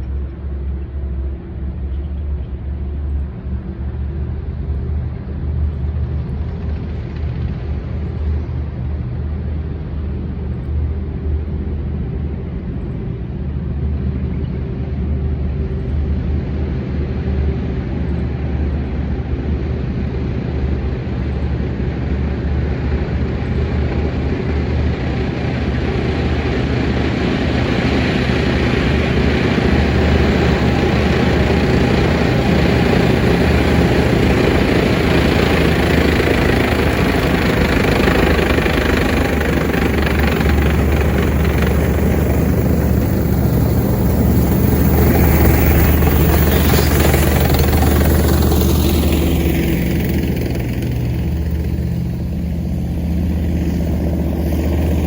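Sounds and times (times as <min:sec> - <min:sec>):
tank engine droning: 0:00.0 - 0:55.0.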